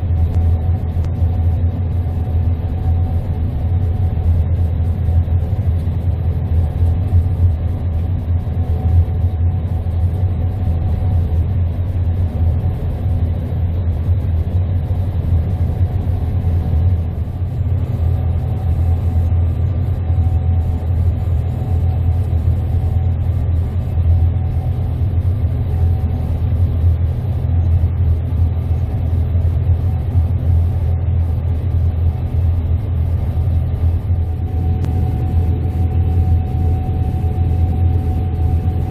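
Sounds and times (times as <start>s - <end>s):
combine harvester rumbling: 0.0s - 38.9s
faint steady whine: 0.0s - 38.9s.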